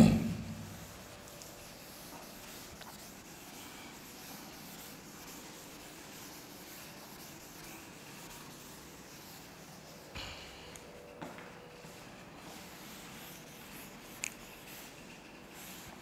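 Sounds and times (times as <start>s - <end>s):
duster rubbing chalkboard: 0.0s - 16.0s.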